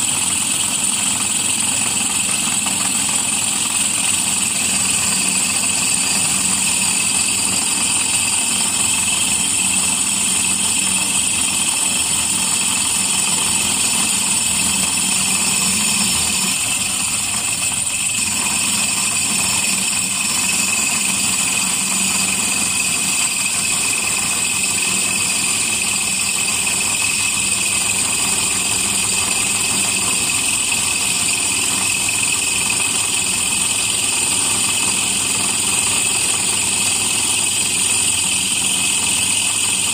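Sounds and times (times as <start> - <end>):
drill bit grinding glass: 0.0 - 39.9
drill press motor hum: 0.0 - 39.9.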